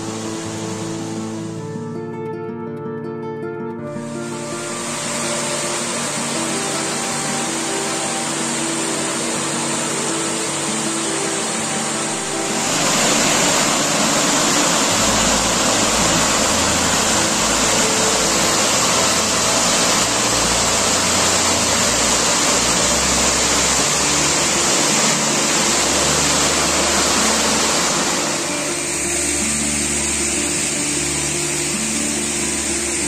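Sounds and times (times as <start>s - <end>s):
water pouring over weir: 4.8s - 33.0s.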